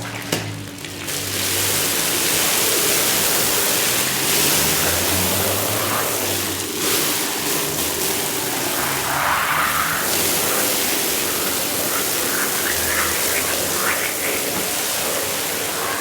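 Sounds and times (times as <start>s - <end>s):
high-pressure water spray hiss: 0.8s - 16.0s.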